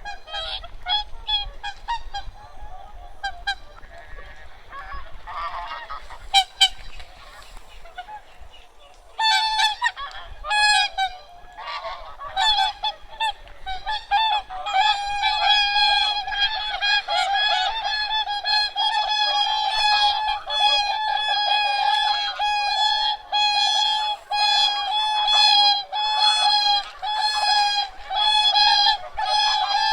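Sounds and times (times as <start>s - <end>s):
geese and swans honking: 0.0s - 29.9s.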